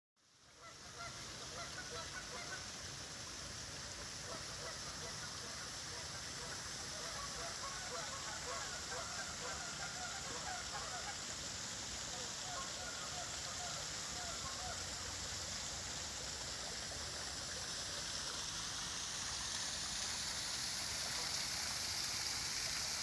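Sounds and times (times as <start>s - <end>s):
rushing water: 0.2s - 23.0s.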